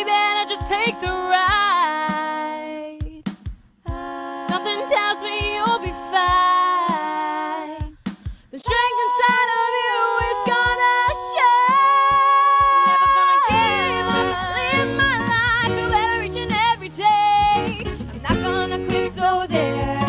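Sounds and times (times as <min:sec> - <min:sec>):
woman singing: 0:00.0 - 0:03.2, 0:03.9 - 0:08.0, 0:08.6 - 0:20.0
pop backing music: 0:00.0 - 0:20.0.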